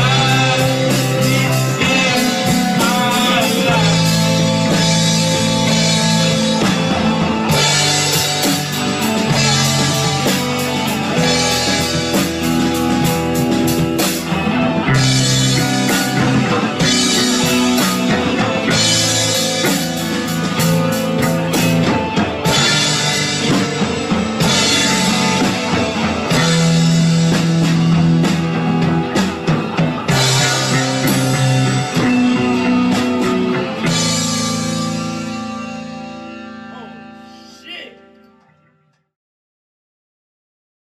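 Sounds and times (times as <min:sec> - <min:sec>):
rock music: 0:00.0 - 0:38.8.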